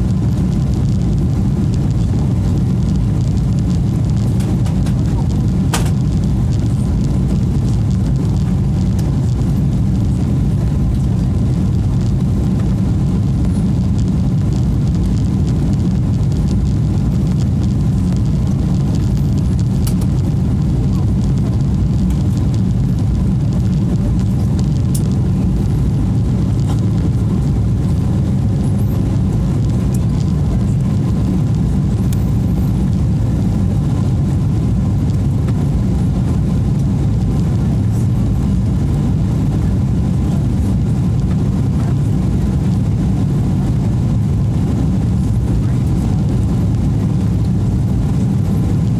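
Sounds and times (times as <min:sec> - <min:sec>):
airliner cabin rumble: 0:00.0 - 0:48.9
faint steady hum: 0:00.0 - 0:48.9.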